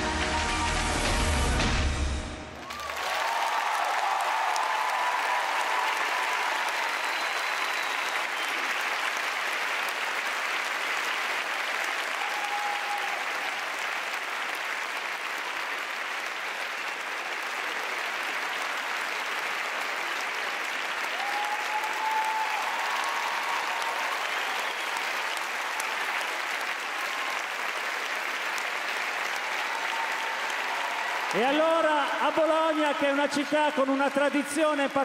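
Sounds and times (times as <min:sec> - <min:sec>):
audience applauding: 0:02.6 - 0:35.0.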